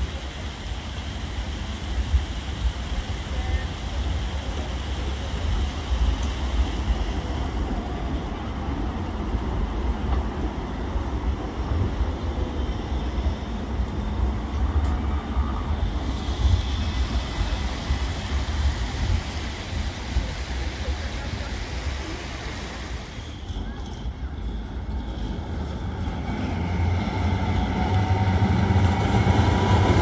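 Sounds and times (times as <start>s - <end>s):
tram rumbling past: 0.0s - 30.0s.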